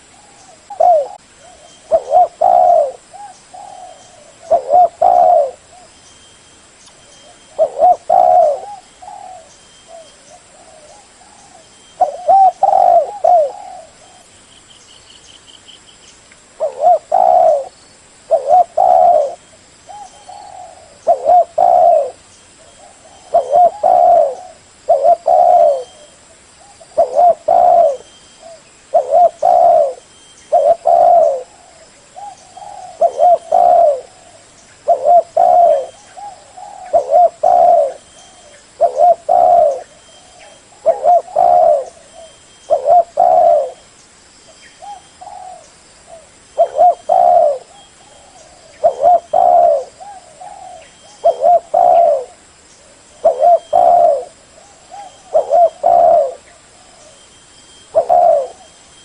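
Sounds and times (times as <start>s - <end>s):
dove cooing: 0.0s - 5.9s, 7.2s - 14.3s, 16.6s - 17.7s, 18.3s - 43.9s, 44.8s - 57.2s, 57.8s - 58.8s
small birds chirping: 0.0s - 59.0s.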